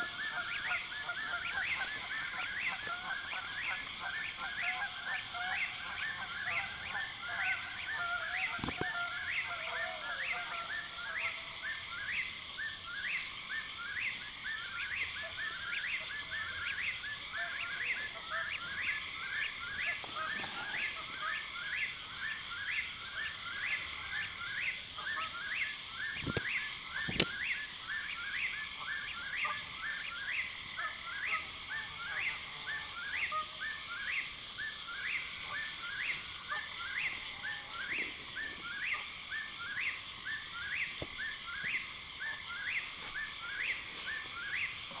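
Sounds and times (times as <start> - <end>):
rhythmic chirping calls: 0.0 - 45.0.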